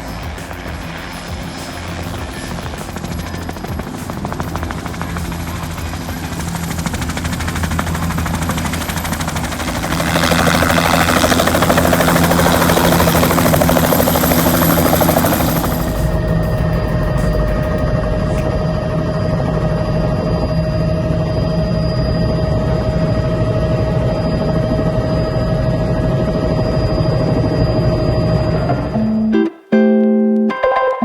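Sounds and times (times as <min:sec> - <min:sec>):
helicopter rotor chopping: 0:00.0 - 0:28.7.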